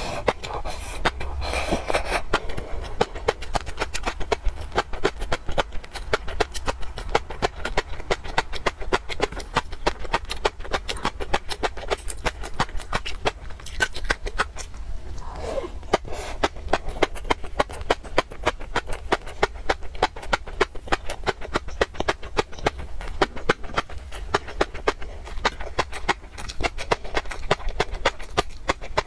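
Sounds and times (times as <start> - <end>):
fish roe popping while chewing: 0.0 - 29.0.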